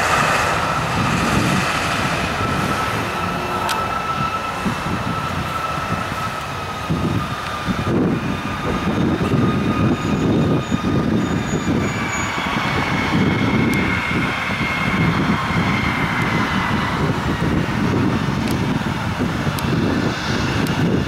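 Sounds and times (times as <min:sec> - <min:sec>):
high engine whine: 0:00.0 - 0:21.0
jet engines at takeoff power: 0:00.0 - 0:21.0.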